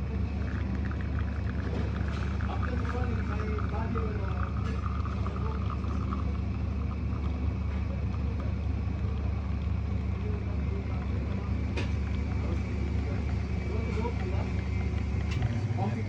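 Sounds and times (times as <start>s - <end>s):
espresso machine humming: 0.0s - 16.0s.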